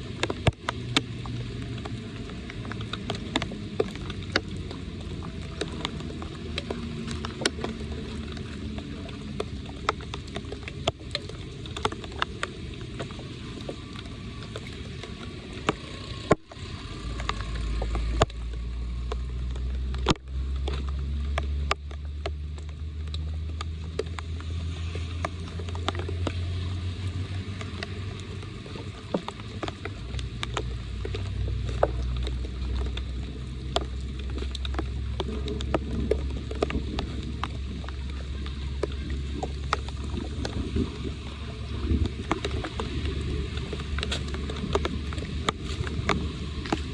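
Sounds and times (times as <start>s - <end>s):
floodwater draining into drain: 0.0s - 46.9s
small clicks and knocks: 0.0s - 46.9s
steady low rumble: 0.0s - 46.9s.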